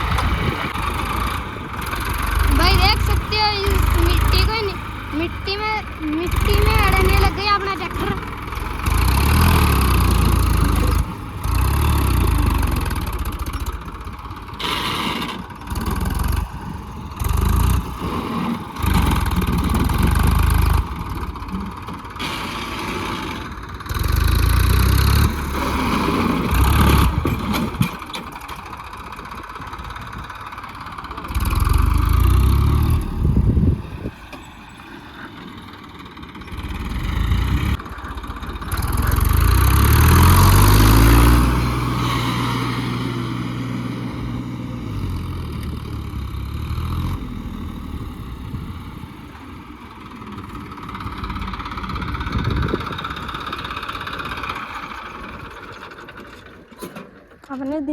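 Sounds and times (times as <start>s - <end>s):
tractor diesel engine revving: 0.0s - 57.6s.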